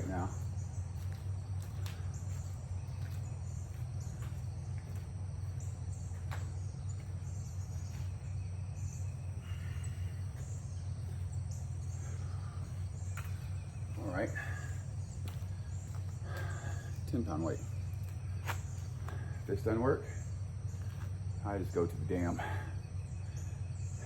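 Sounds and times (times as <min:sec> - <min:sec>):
faint high chirping: 0:00.0 - 0:24.0
low background hum: 0:00.0 - 0:24.0.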